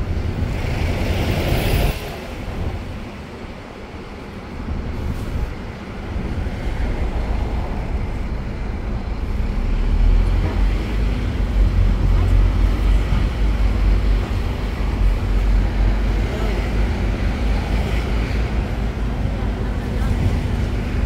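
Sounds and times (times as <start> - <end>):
bus engine: 0.0 - 21.0.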